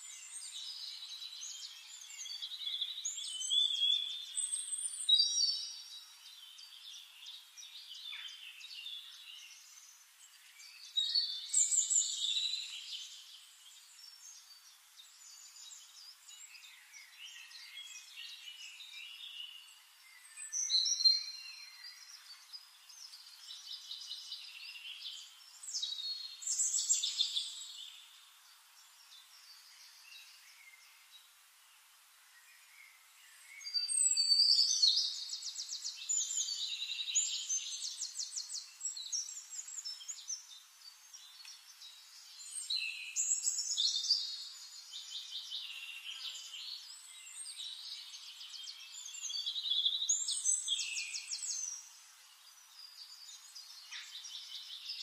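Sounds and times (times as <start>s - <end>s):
faint outdoor hiss: 0.0s - 55.0s.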